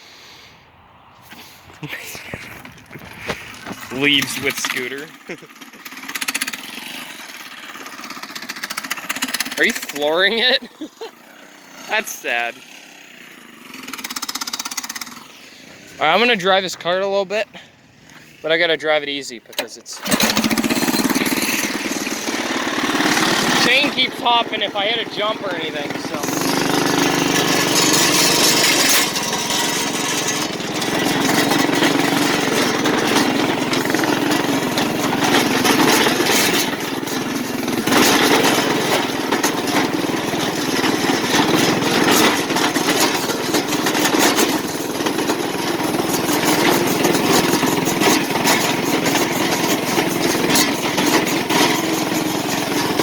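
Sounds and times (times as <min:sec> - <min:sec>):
go-kart engine running: 0:01.2 - 0:53.0
kart knocks and rattles: 0:01.8 - 0:12.6, 0:13.4 - 0:15.3, 0:19.5 - 0:53.0.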